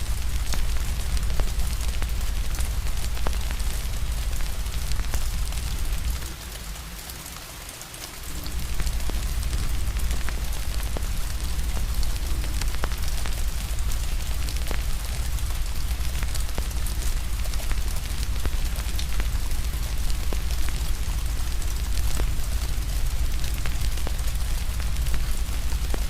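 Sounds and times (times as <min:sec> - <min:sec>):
rain hiss: 0:00.0 - 0:26.0
wood fire crackling: 0:00.0 - 0:26.0.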